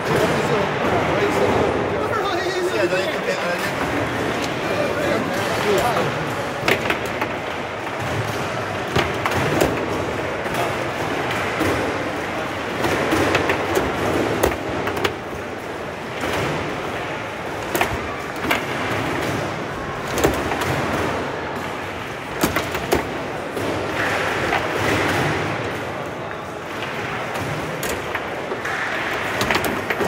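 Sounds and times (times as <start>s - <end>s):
steady background noise: 0.0s - 30.0s
foosball rods rattling: 3.7s - 30.0s
foosball ball clacking: 5.2s - 30.0s.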